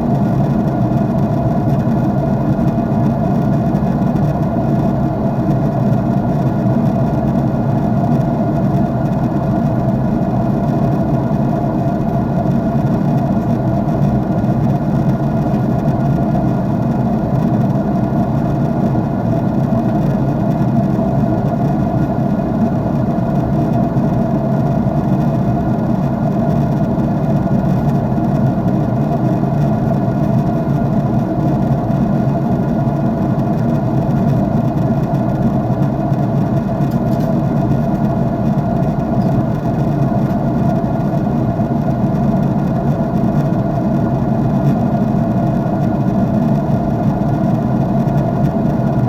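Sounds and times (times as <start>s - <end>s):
jet engine drone in cabin: 0.0s - 49.0s.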